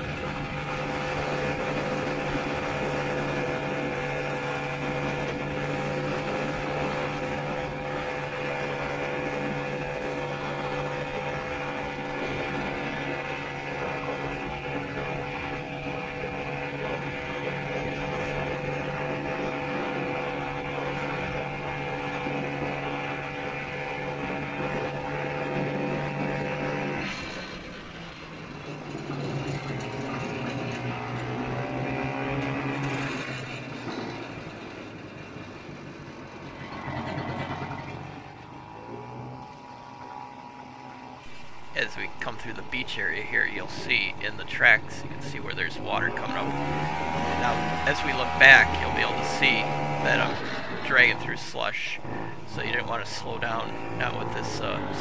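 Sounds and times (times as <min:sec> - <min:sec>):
snowmobile engine running: 0:00.0 - 0:40.2, 0:41.2 - 0:55.0.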